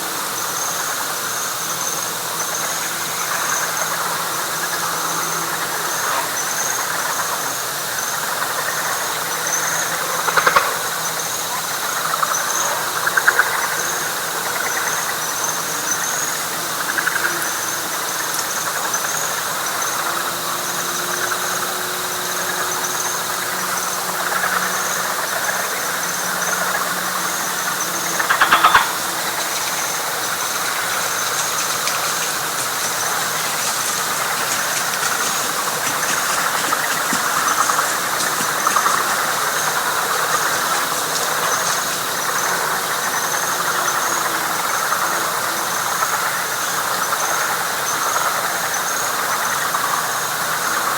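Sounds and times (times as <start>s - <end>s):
frog chorus: 0.0s - 50.9s
high insect chirping: 0.4s - 49.0s
loud rattling frog call: 0.8s - 50.1s.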